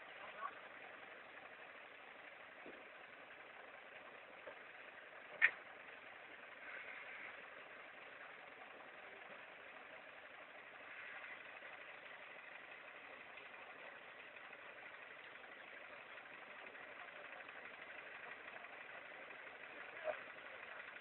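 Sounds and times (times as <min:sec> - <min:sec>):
faint engine idling: 0:00.0 - 0:21.0.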